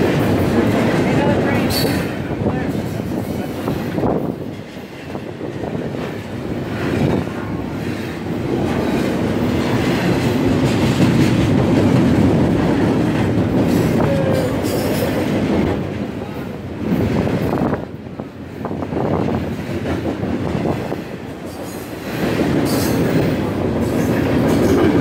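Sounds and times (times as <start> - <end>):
freight train cars rolling past: 0.0 - 25.0.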